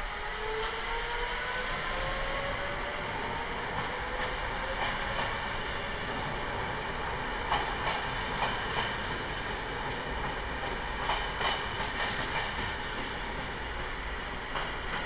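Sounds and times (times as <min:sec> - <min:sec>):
train rolling rumble: 0:00.1 - 0:15.0.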